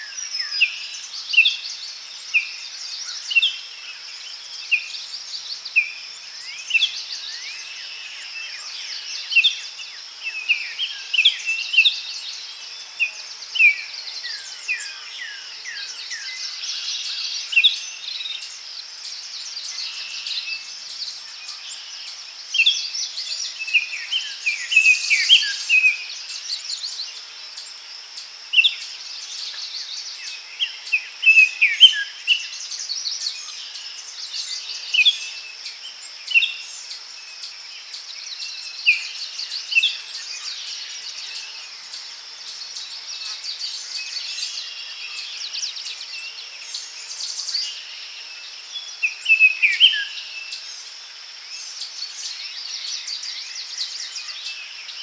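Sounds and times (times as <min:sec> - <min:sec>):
high insect drone: 0:00.0 - 0:55.0
songbirds calling: 0:00.0 - 0:55.0.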